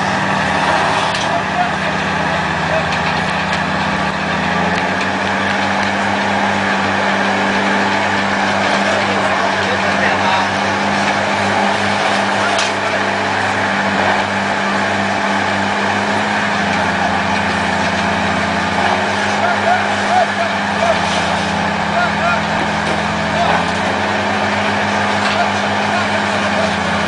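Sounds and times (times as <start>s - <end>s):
truck engine droning: 0.0s - 27.0s.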